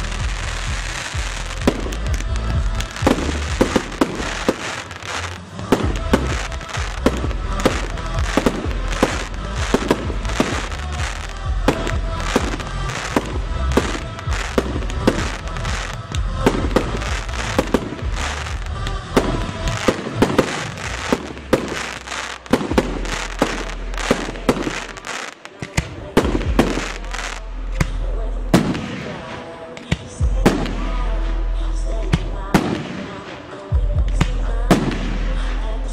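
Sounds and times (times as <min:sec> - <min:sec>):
fireworks bangs and crackling: 0:00.0 - 0:35.9
music: 0:00.0 - 0:35.9.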